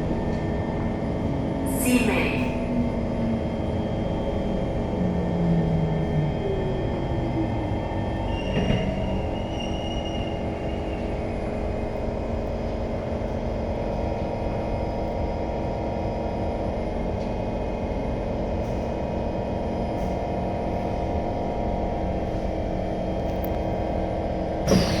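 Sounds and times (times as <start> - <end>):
metro train rumble: 0.0 - 25.0.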